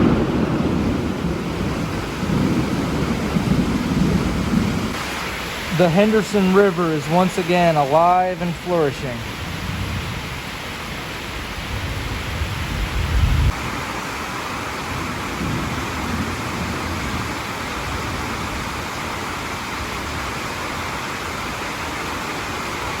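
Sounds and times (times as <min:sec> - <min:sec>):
heavy rain hiss: 0:00.0 - 0:23.0.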